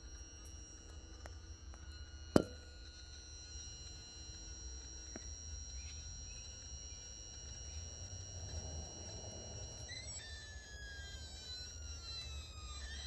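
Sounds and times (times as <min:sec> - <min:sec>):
high-pitched electronic whine: 0:00.0 - 0:13.0.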